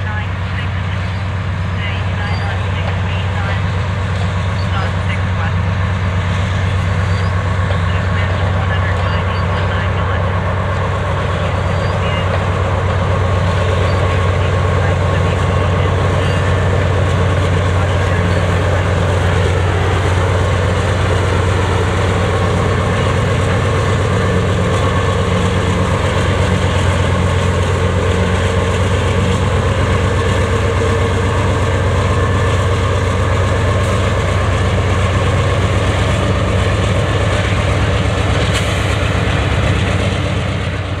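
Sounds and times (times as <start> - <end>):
diesel locomotive engines droning: 0.0 - 41.0
wheel and rail noise: 0.0 - 41.0.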